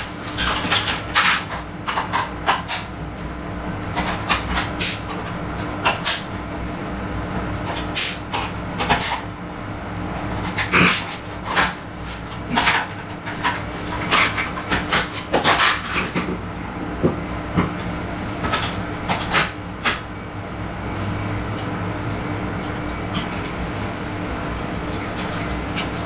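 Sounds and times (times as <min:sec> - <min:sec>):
steady low hum: 0:03.0 - 0:26.0.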